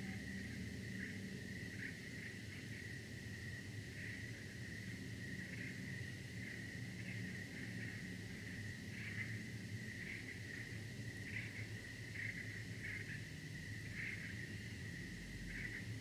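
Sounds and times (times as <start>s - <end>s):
crickets trilling: 0.0s - 16.0s
low steady hum: 0.0s - 16.0s.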